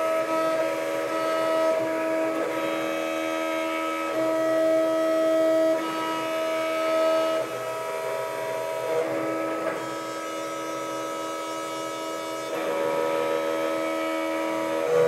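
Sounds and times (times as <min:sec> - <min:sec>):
engraving machine motor whine: 0:00.0 - 0:15.0.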